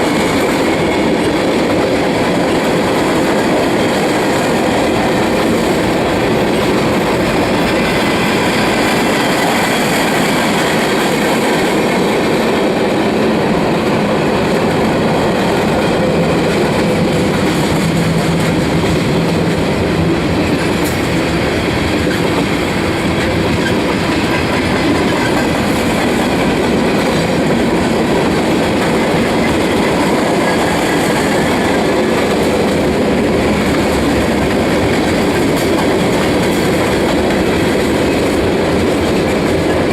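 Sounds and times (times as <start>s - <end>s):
steel wheels on rail: 0.0s - 39.9s.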